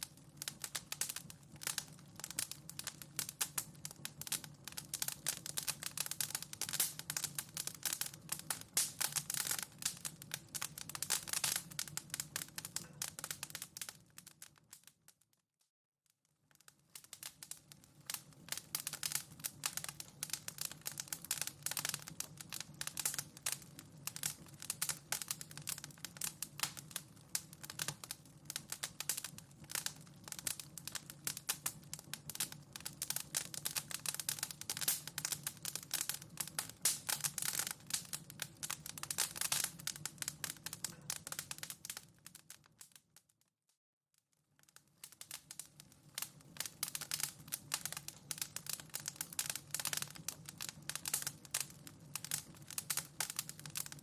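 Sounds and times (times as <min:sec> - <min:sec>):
wood fire crackling: 0:00.0 - 0:15.2, 0:16.4 - 0:43.3, 0:44.6 - 0:54.0.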